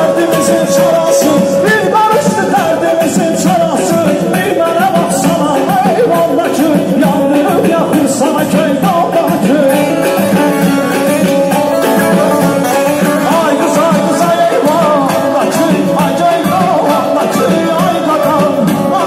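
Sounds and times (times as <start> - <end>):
loud amplified band: 0.0 - 19.0
man singing through microphone: 0.0 - 19.0.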